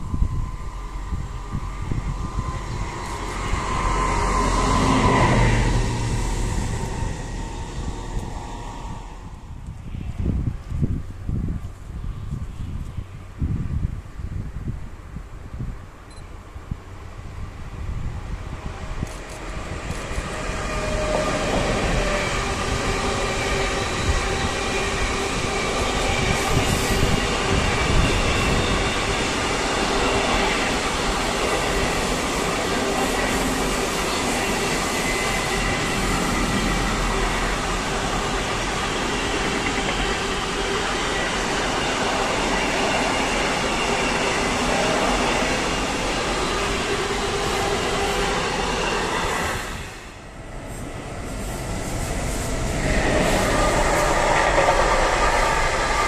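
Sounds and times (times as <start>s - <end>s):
freight train passing: 0.0s - 13.7s, 16.1s - 56.0s
wheels rumbling on rails: 0.0s - 13.8s, 16.8s - 56.0s.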